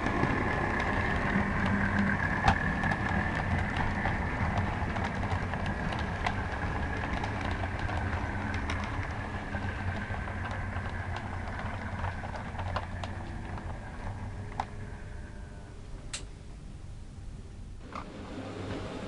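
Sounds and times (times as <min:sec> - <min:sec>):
model train motor hum and whine: 0:00.0 - 0:16.2.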